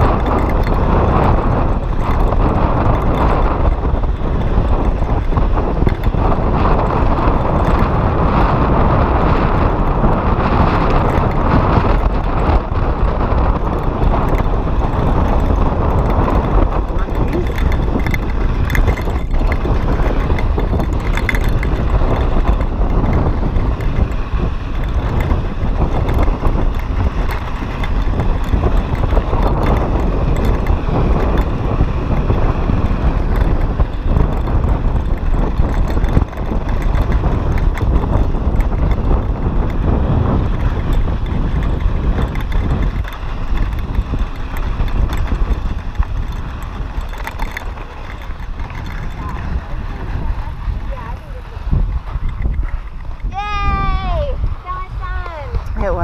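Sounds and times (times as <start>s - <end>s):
bike rattling and ticking: 0.0s - 56.0s
bike tyres rolling over gravel: 0.0s - 56.0s
wind buffeting microphone: 0.0s - 56.0s.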